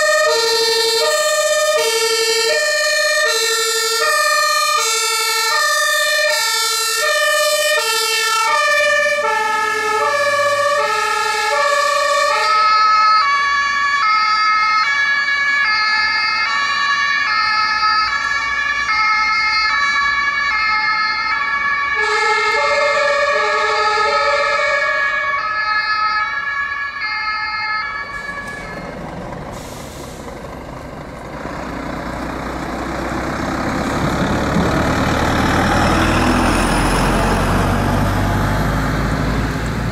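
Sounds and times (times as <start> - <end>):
fire truck diesel engine: 0.0 - 39.9
two-tone fire engine sirens: 0.0 - 39.9
tyres on road: 0.0 - 39.9.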